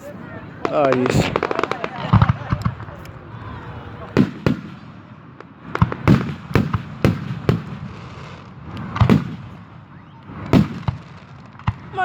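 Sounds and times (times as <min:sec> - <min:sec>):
fireworks booming: 0:00.5 - 0:12.0.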